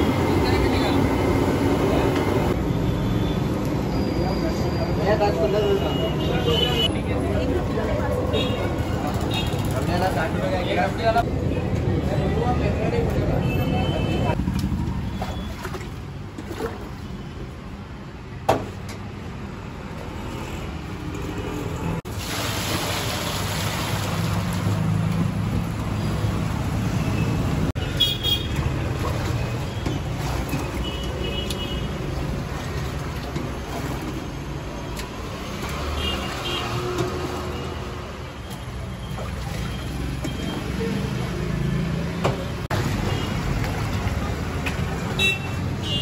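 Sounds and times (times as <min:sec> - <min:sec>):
road traffic rumble: 0:00.0 - 0:46.0.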